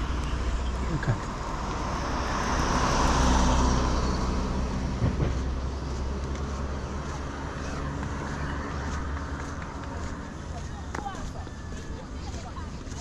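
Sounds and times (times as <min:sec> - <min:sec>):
vehicle driving past: 0:00.0 - 0:12.3
low engine hum: 0:00.0 - 0:13.0.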